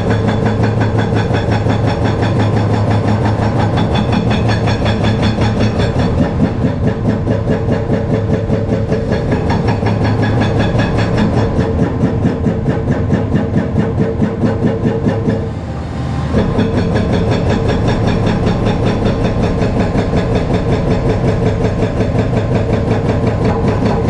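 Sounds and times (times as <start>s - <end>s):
excavator diesel engine clattering: 0.0s - 24.0s.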